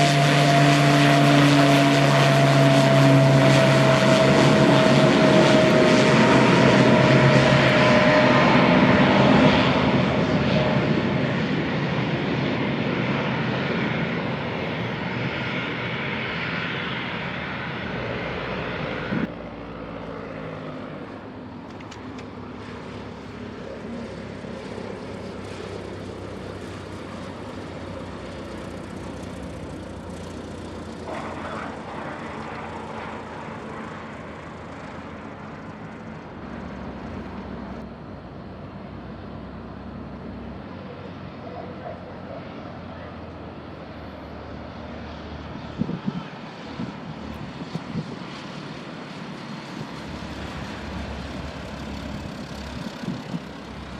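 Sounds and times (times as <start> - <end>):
airplane engine drone: 0.0 - 53.9.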